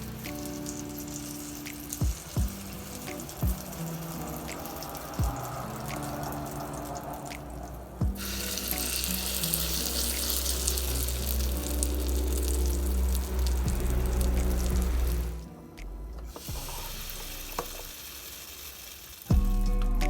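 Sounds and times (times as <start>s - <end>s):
food sizzling in a pan: 0.0s - 15.4s, 16.3s - 20.0s
water running from tap: 0.0s - 15.4s, 16.3s - 20.0s.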